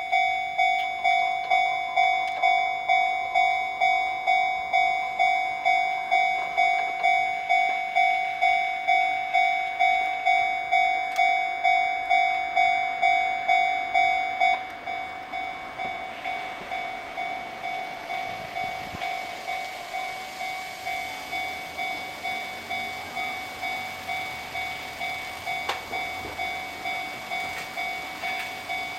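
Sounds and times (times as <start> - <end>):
passing train rushing: 0.0 - 28.9
railroad crossing bell ringing: 0.0 - 28.9.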